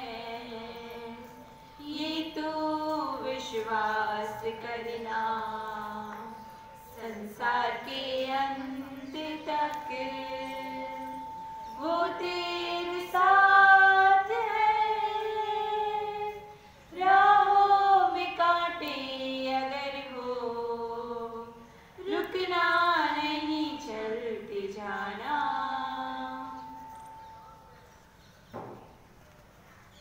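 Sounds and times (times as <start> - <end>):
two women singing: 0.0 - 27.3.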